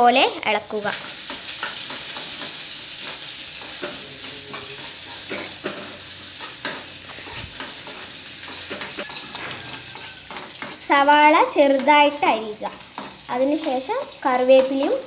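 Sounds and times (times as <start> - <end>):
onions sizzling in oil: 0.0 - 15.0
spoon scraping a pan: 0.9 - 13.3.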